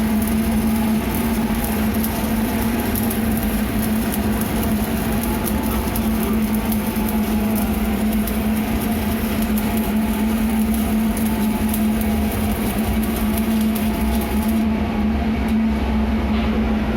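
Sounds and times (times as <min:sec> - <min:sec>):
fine crackle: 0:00.0 - 0:14.7
broad noisy background: 0:00.0 - 0:16.9
low machine hum: 0:00.0 - 0:16.9.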